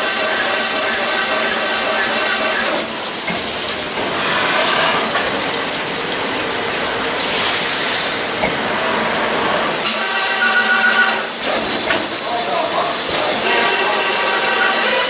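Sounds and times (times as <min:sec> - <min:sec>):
shop machinery running: 0:00.0 - 0:15.0.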